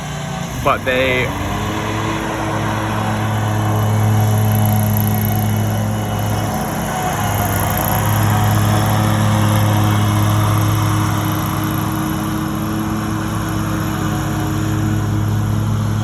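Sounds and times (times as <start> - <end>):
small gasoline engines running: 0.0 - 16.0.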